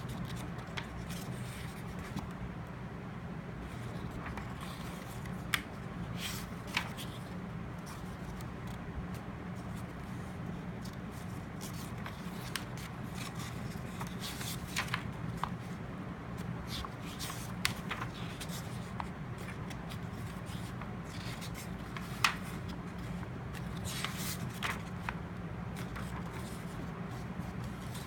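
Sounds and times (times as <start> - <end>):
paper rustling: 0.0 - 2.3, 3.6 - 28.0
soft clicks of pages turning: 0.0 - 2.8, 3.6 - 28.0
steady low hum: 0.0 - 28.0.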